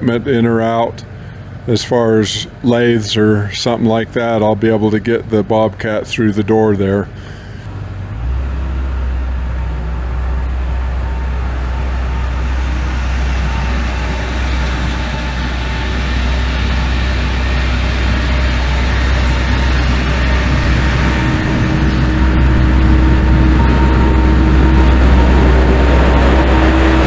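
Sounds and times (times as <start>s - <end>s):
heavy engine droning: 0.0s - 27.0s.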